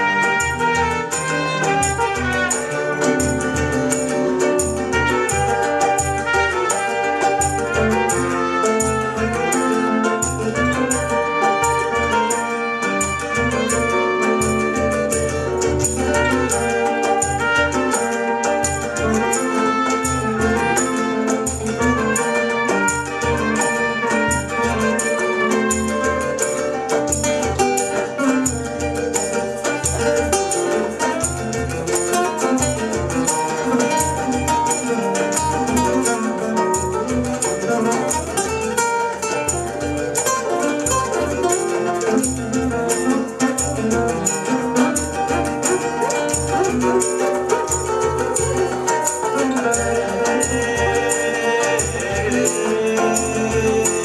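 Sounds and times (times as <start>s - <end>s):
acoustic and electric guitars: 0.0s - 54.0s
trumpet: 0.0s - 54.0s.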